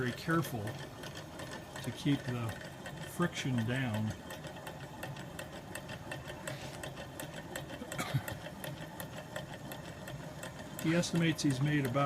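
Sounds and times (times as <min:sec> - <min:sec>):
hot air engine running: 0:00.0 - 0:12.0.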